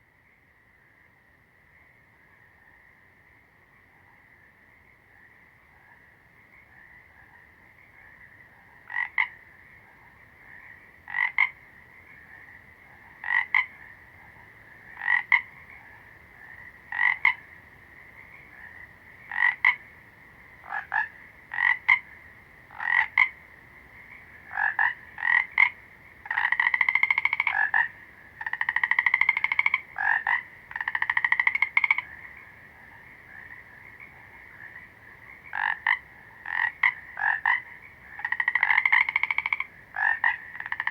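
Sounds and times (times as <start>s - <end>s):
chorus of frogs croaking: 0.0s - 40.9s
nearby frog croaking: 3.8s - 40.9s.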